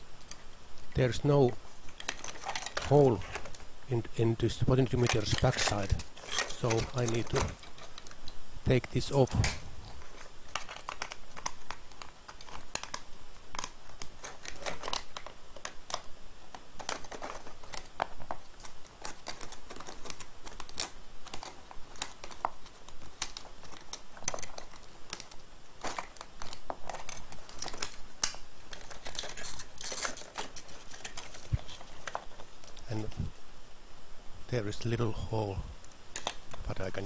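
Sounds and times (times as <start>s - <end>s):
plastic parts clicking and scraping: 1.0s - 33.3s, 35.8s - 37.0s
wires rattling: 1.7s - 8.4s, 9.2s - 16.1s, 16.7s - 33.2s.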